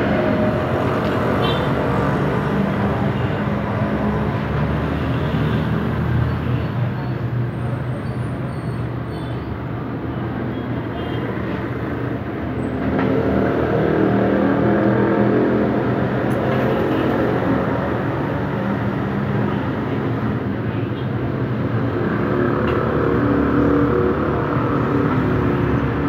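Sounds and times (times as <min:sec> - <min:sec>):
traffic din: 0:00.0 - 0:26.0.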